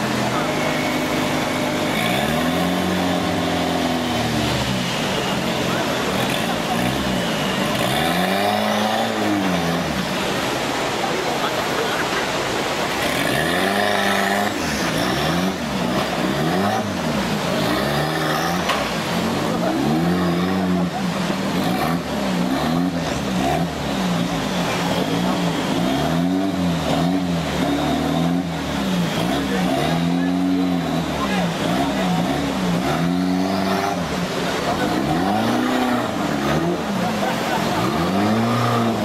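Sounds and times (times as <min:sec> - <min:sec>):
off-road vehicle engine revving: 0:00.0 - 0:39.0
water churning around wheels: 0:00.0 - 0:39.0.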